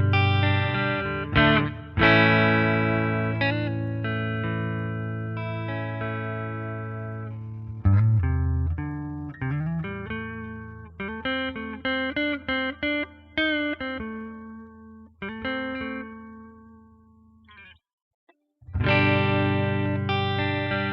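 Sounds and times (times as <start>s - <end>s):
clean electric guitar: 0.0s - 20.9s.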